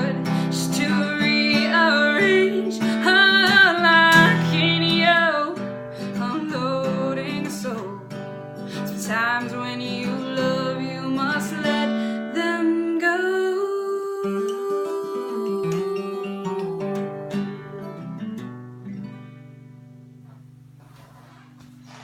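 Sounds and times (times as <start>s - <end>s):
acoustic guitar strumming: 0.0s - 13.2s, 13.8s - 22.0s
woman singing: 0.0s - 18.2s.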